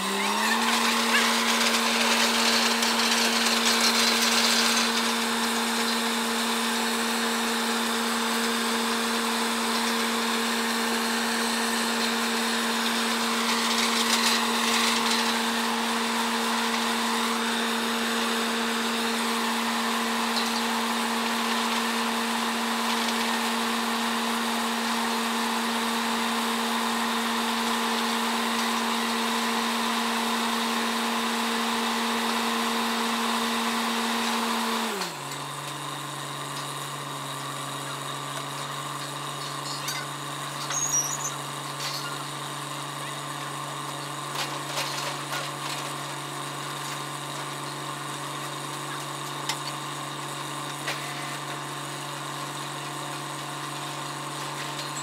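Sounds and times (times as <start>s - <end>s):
drilling rig engine running: 0.0s - 30.8s, 34.9s - 55.0s.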